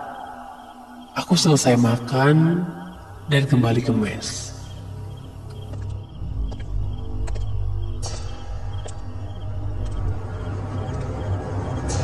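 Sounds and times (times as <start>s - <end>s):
faint high chirping: 0.0s - 12.0s
low droning music: 0.0s - 12.0s.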